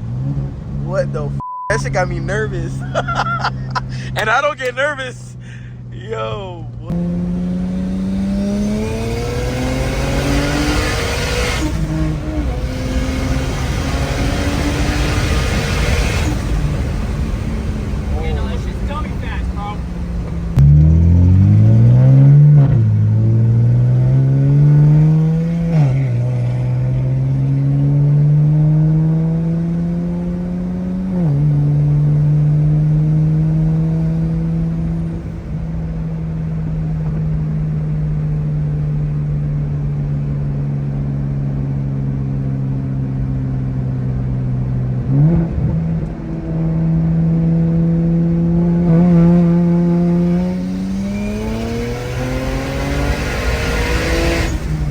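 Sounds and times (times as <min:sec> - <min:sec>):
car engine accelerating hard: 0:00.0 - 0:54.9.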